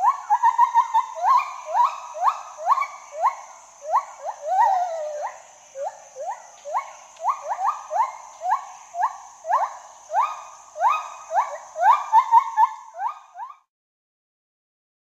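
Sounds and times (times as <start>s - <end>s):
gibbon hooting: 0.0s - 5.4s, 6.2s - 13.6s.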